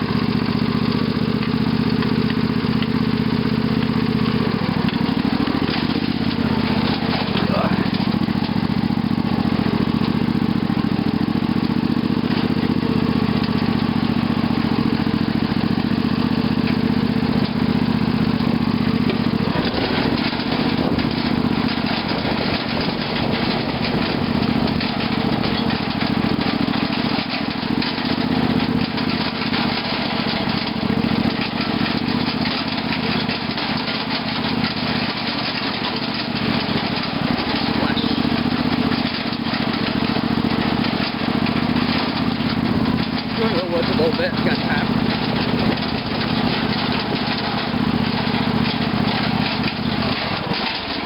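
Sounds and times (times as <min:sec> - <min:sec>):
lawn tractor engine running: 0:00.0 - 0:51.0.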